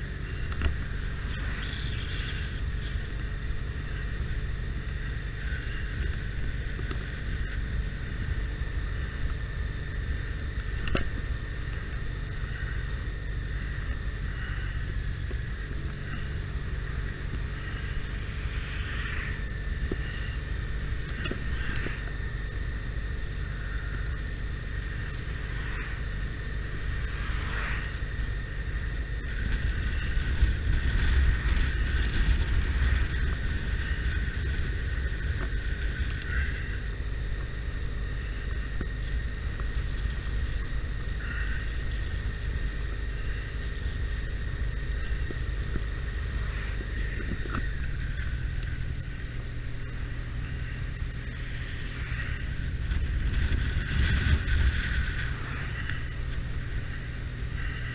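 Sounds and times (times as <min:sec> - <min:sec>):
motorcycle engine rumble: 0:00.0 - 0:57.9
wind: 0:00.0 - 0:57.9.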